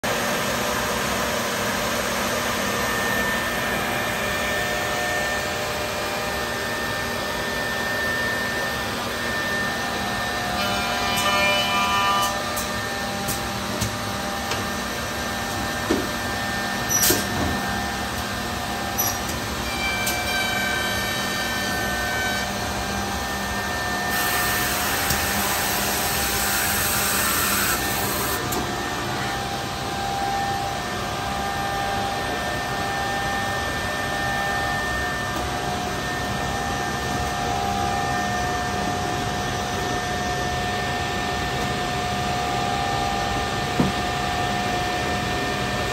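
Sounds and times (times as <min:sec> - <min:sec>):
machine hum: 0:00.1 - 0:45.9.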